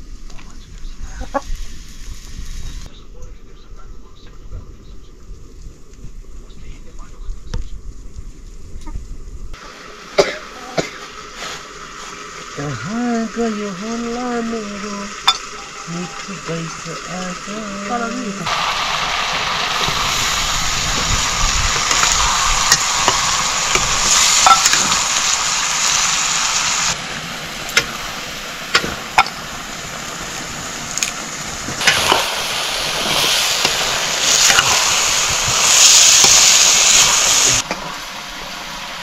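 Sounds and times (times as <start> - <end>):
food sizzling in hot oil: 1.0 - 2.9, 9.6 - 39.0.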